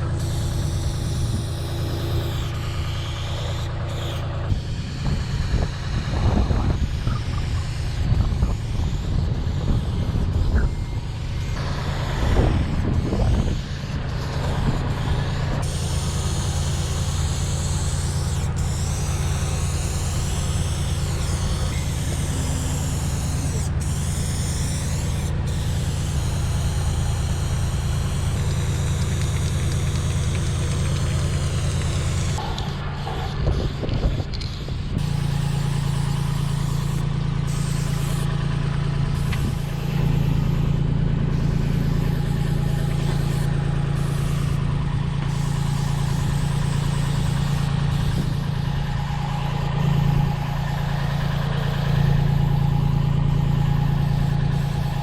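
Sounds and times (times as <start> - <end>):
spray paint cans hissing: 0.0 - 6.0, 7.0 - 55.0
engine humming: 0.0 - 55.0.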